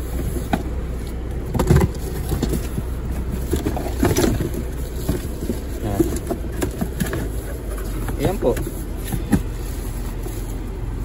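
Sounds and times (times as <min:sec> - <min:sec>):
car cabin rumble: 0:00.0 - 0:11.0
handling knocks and rustles: 0:00.0 - 0:11.0.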